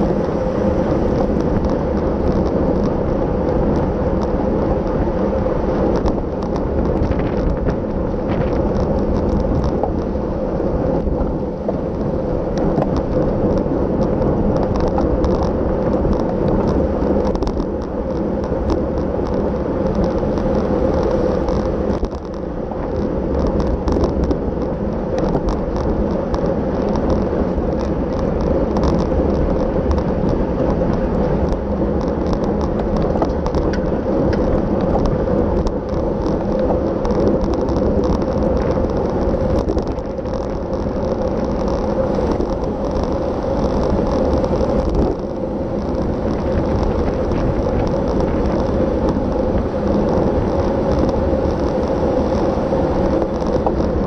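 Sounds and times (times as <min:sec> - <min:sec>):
small clicks and ticks: 0:00.0 - 0:54.0
tyres rumbling on road: 0:00.0 - 0:54.0
wind rushing over microphone: 0:00.0 - 0:54.0.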